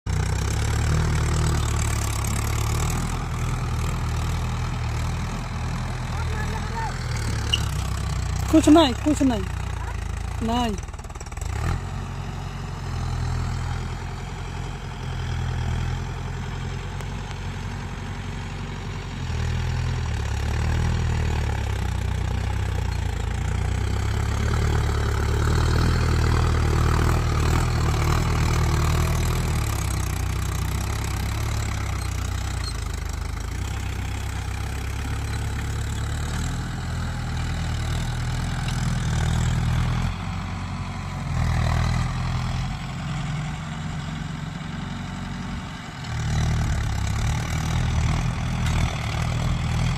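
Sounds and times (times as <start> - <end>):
tractor diesel engine running: 0.1 - 49.9.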